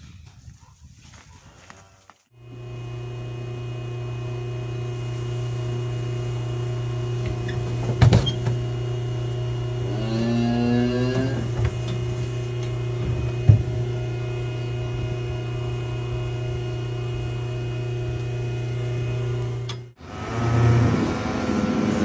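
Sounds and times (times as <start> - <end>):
loud machine hum: 2.4 - 22.0.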